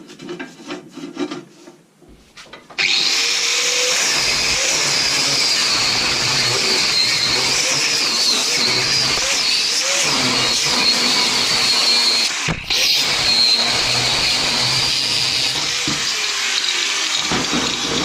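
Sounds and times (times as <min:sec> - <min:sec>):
power tool whining: 0:02.8 - 0:18.0.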